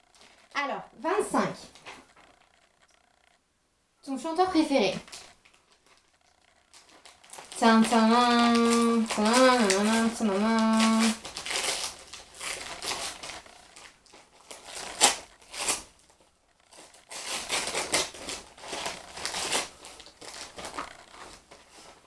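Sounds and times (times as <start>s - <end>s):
wrapping paper tearing and crumpling: 4.3s - 22.0s.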